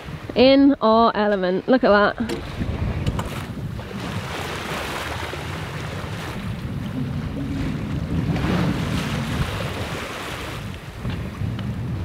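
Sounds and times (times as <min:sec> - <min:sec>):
sea water splashing along hull: 0:00.0 - 0:12.0
wind buffeting microphone: 0:00.0 - 0:12.0.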